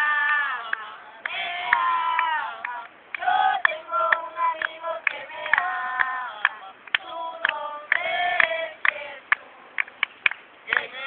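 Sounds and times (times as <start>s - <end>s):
group singing: 0.0s - 11.0s.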